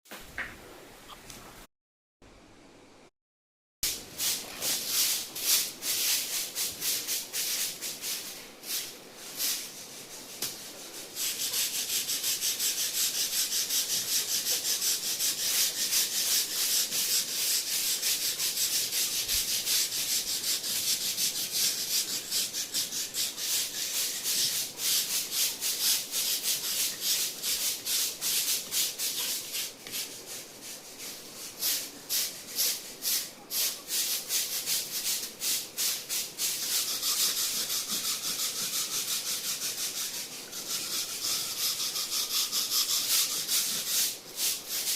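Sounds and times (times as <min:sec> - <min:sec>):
stiff bristles brushing hard surface: 0:03.8 - 0:44.9.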